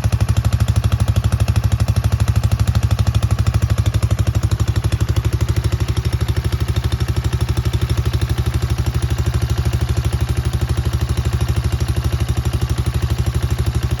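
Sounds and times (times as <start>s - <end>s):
atv engine idling: 0.0s - 14.0s.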